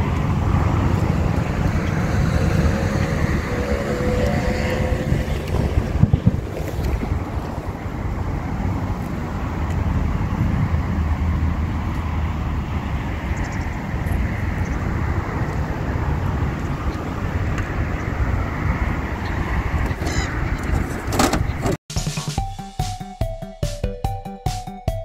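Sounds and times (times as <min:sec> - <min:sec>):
wind buffeting microphone: 0:00.0 - 0:21.8.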